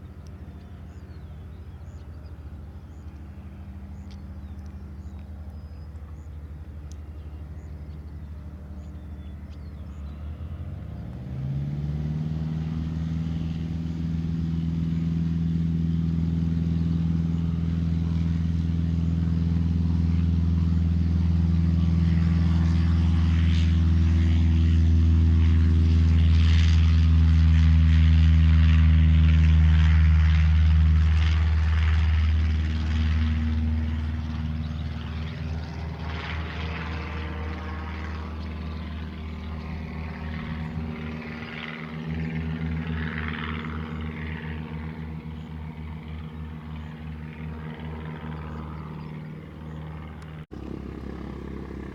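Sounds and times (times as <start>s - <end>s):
small plane engine and propeller: 0.0s - 51.9s.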